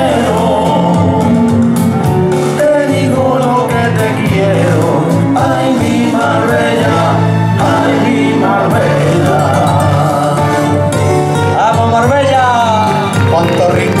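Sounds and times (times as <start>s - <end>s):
two men singing with vibrato: 0.0s - 13.3s
instrumental accompaniment: 0.0s - 14.0s.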